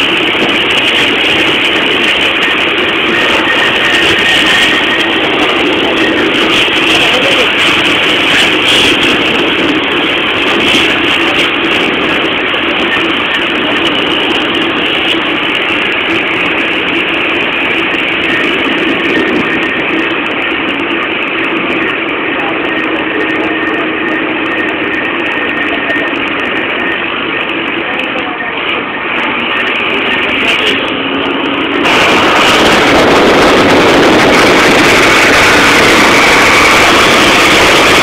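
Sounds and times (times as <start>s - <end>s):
constant drone: 0.0s - 38.0s
vehicle engine and road noise: 0.0s - 38.0s.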